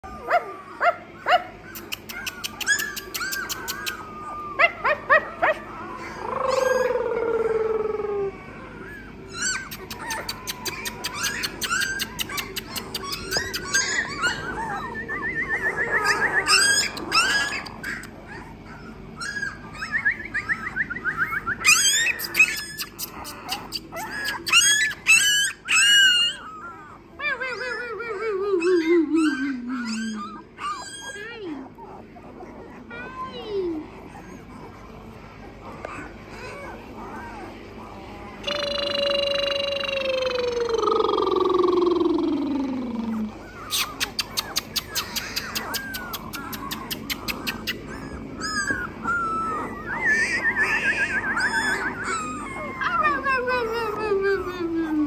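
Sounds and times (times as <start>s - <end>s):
puppies squeaking and whimpering: 0.0s - 55.0s
puppy whines: 0.0s - 55.0s.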